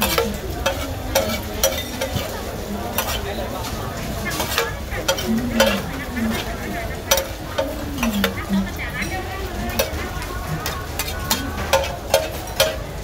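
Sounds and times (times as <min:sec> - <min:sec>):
food sizzling: 0:00.0 - 0:13.0
metal spatulas scraping a pan: 0:00.0 - 0:13.0.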